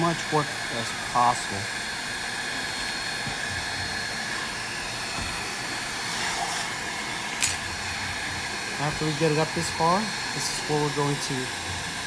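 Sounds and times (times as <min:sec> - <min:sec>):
heat gun blowing: 0:00.0 - 0:12.0.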